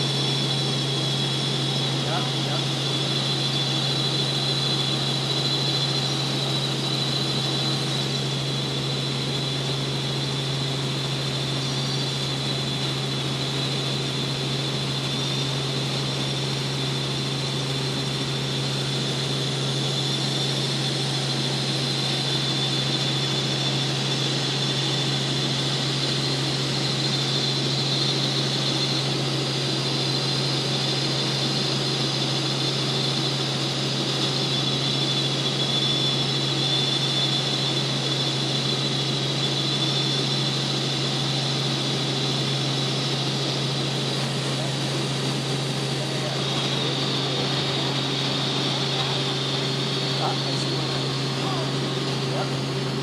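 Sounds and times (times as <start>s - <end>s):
helicopter cabin drone and whine: 0.0s - 53.0s.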